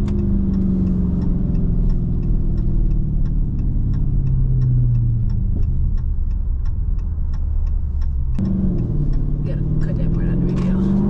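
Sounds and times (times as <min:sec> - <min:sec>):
car exhaust drone: 0:00.0 - 0:11.0
light steady ticking: 0:00.0 - 0:11.0.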